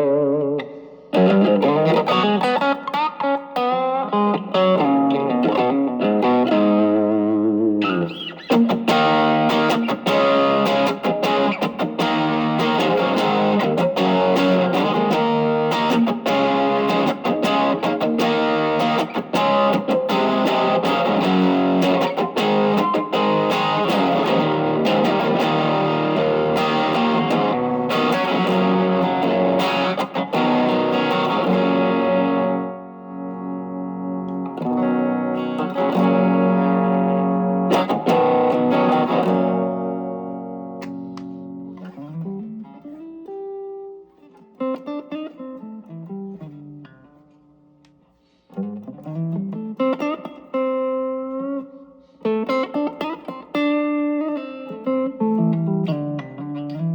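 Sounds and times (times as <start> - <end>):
overdriven electric guitar: 0.0 - 56.9.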